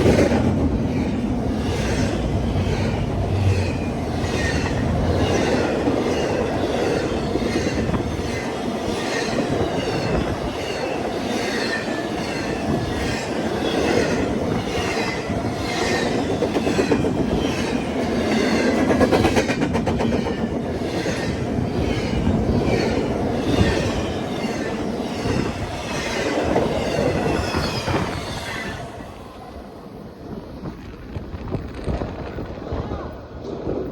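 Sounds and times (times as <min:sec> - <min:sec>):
train wheels clacking over rail joints: 0:00.0 - 0:28.2
steady train rumble: 0:00.0 - 0:33.9.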